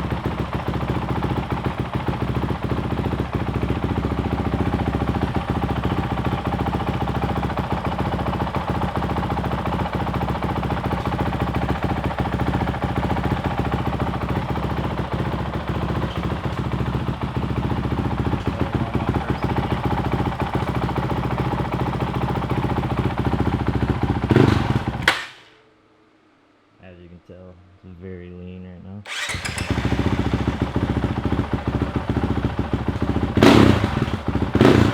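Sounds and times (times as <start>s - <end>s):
motorcycle engine idling: 0.0s - 25.3s, 29.1s - 34.9s.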